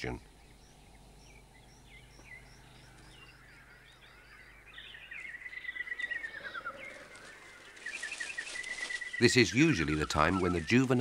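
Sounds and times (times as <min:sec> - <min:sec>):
bird song of quick notes: 0:00.0 - 0:11.0.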